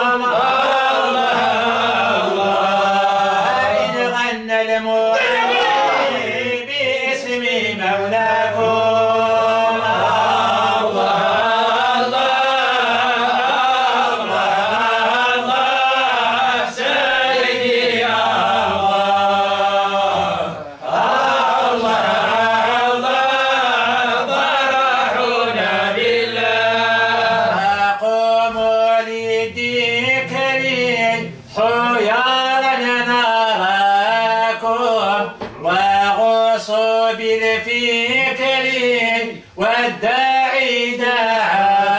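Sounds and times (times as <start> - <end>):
men chanting devotional song: 0.0 - 41.9.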